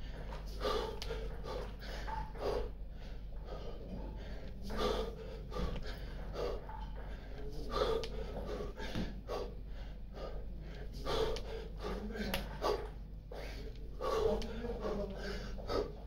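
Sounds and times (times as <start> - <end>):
man breathing hard: 0.0 - 16.0
steady low hum: 0.0 - 16.0.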